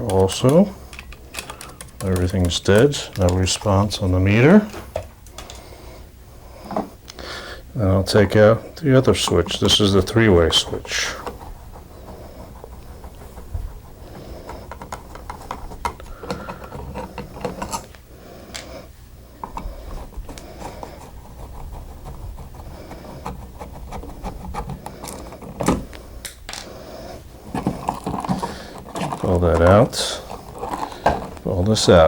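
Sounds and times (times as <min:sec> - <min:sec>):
screwdriver scraping and rattling: 0:00.0 - 0:05.6, 0:08.1 - 0:18.7, 0:19.4 - 0:26.1, 0:27.4 - 0:32.0.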